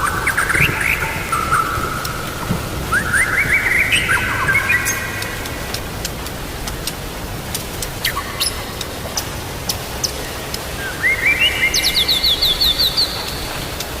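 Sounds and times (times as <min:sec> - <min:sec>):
songbird singing: 0:00.0 - 0:07.0, 0:07.6 - 0:14.0
steady rain: 0:00.0 - 0:14.0.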